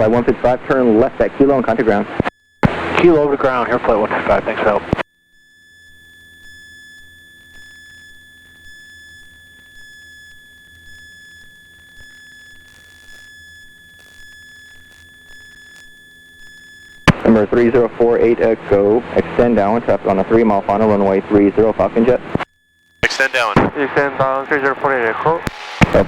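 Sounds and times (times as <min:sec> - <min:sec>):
high electronic whine: 0:00.0 - 0:26.0.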